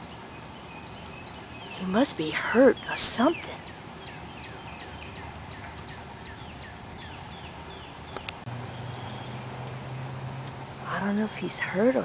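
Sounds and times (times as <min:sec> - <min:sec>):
bird chirping: 0:00.0 - 0:12.0
faint high insect tone: 0:00.0 - 0:12.0.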